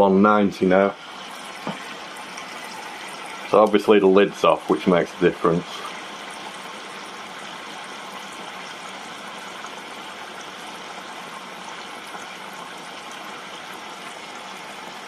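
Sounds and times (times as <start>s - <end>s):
chips sizzling in deep fryer: 1.0s - 15.0s.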